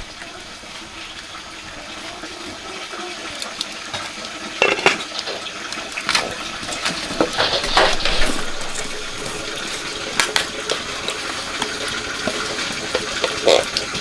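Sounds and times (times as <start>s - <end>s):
water splashing and pouring: 0.0s - 14.0s.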